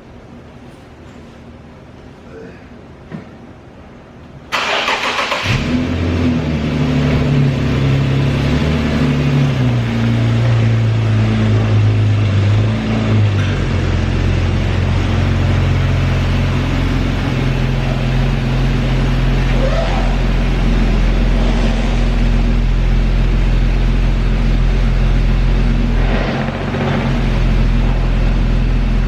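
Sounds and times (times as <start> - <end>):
car engine starting and idling: 4.5 - 29.0.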